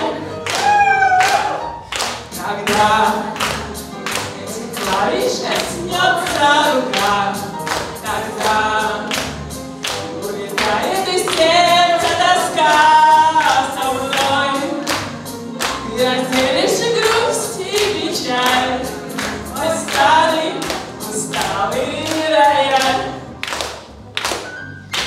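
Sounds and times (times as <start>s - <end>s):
keyboard accompaniment: 0.0s - 25.0s
woman singing into microphone: 2.3s - 9.5s, 10.1s - 23.3s.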